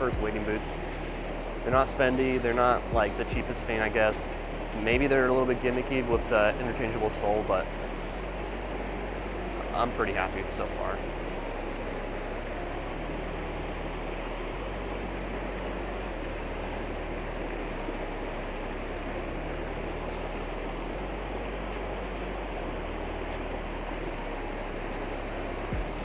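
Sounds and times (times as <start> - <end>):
faint high ticking: 0.0 - 26.0
water rushing over rocks: 0.0 - 26.0.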